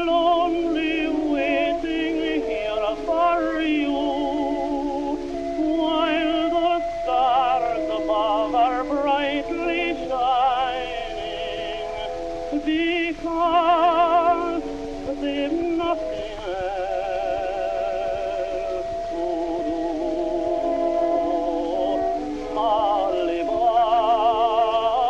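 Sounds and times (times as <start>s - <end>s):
slow music with vibrato melody: 0.0s - 25.0s.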